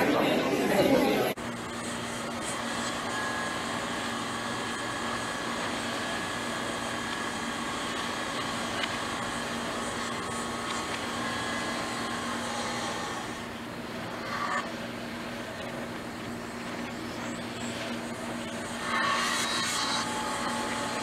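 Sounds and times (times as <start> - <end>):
mechanical whirring hum: 0.0 - 21.0.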